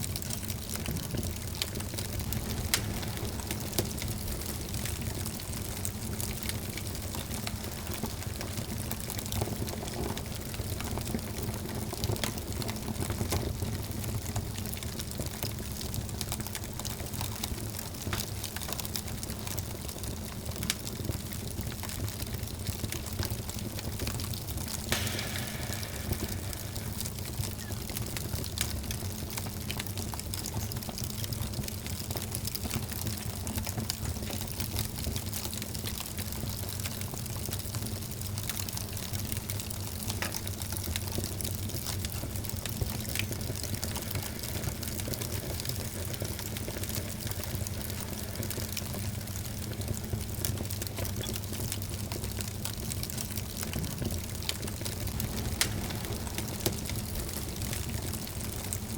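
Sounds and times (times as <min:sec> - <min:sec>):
fire crackling in a fireplace: 0:00.0 - 0:58.9.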